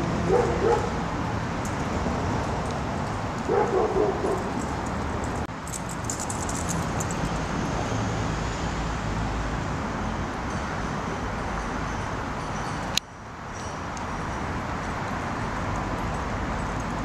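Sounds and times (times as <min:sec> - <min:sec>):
city road traffic hum: 0:00.0 - 0:17.0.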